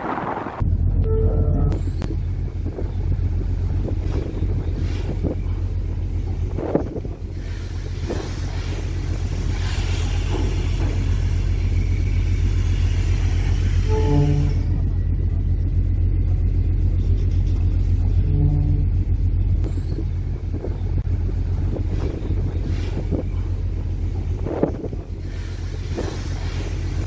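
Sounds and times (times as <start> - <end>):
ship engines rumbling: 0.0 - 27.0.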